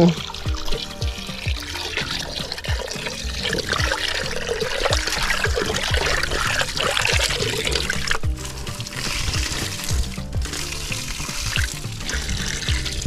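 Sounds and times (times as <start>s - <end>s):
music with thumping beat: 0.0s - 13.0s
water pouring and splashing: 0.0s - 13.0s.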